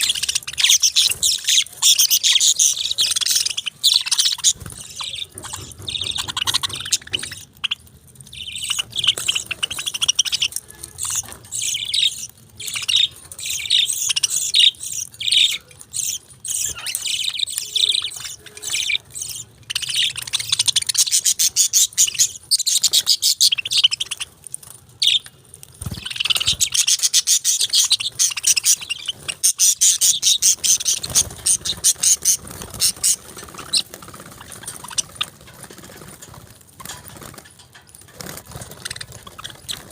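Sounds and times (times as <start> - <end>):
budgerigars chirping: 0.0 - 24.3, 25.8 - 35.3.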